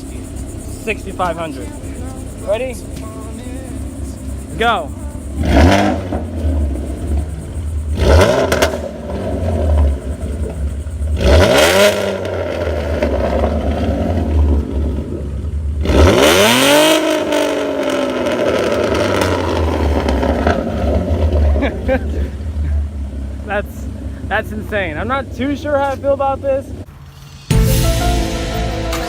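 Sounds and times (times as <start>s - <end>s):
car exhaust idling rumble: 0.0s - 26.9s
car engine revving: 0.0s - 27.0s.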